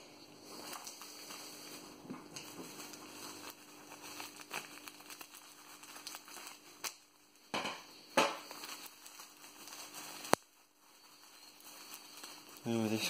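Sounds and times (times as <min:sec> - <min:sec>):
bubble wrap crinkling: 0:00.0 - 0:13.0
sharp crackles and clicks: 0:00.0 - 0:13.0.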